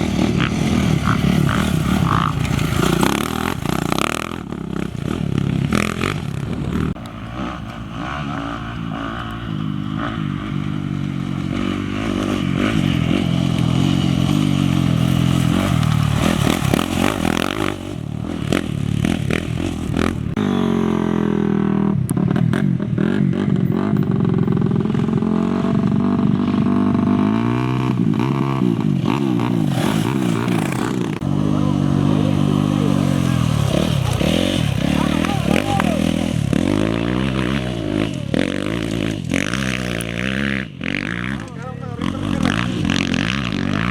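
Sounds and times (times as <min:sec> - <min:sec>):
motorcycle engine revving past: 0:00.0 - 0:43.9.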